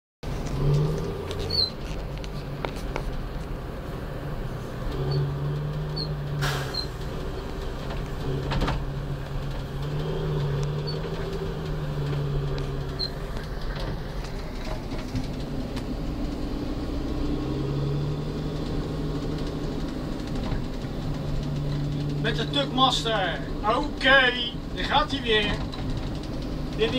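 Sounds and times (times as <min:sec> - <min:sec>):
diesel engine running: 0:00.2 - 0:26.9.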